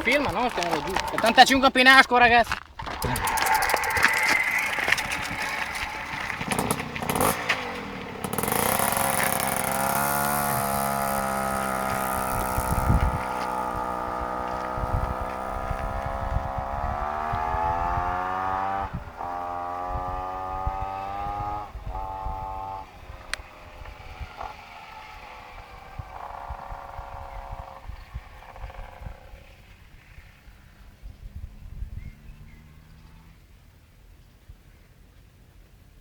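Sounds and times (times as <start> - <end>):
moped engine at full throttle: 2.8 - 33.4.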